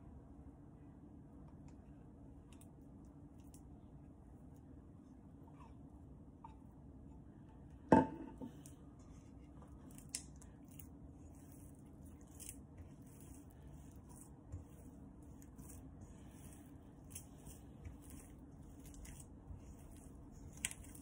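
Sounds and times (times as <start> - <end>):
dough squishing while kneaded: 2.4 - 21.0.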